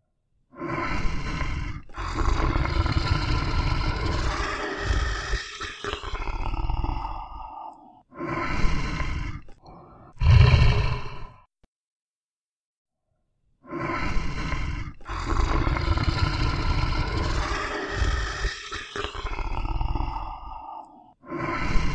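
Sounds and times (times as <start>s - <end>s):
bear growling: 0.7s - 11.5s, 13.8s - 21.8s.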